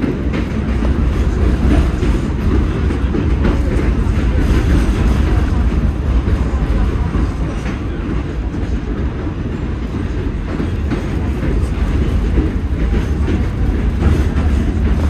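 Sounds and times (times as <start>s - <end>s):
low rumble of train wheels: 0.0s - 15.0s.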